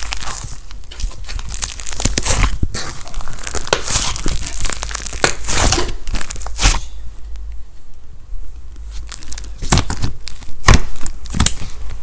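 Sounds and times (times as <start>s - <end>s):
slime squelching and crackling: 0.0s - 7.5s, 8.7s - 12.0s.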